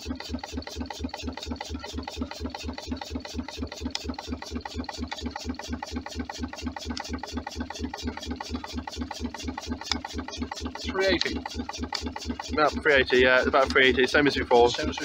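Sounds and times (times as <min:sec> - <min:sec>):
stirling engine running: 0:00.0 - 0:15.0.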